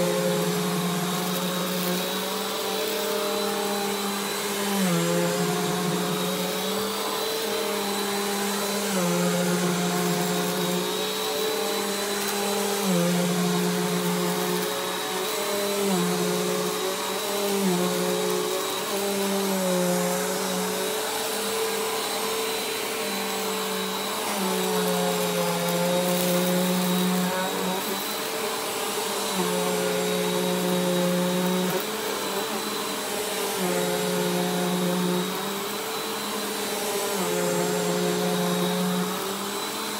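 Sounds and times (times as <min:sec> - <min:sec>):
vacuum cleaner on rug: 0:00.0 - 0:39.9.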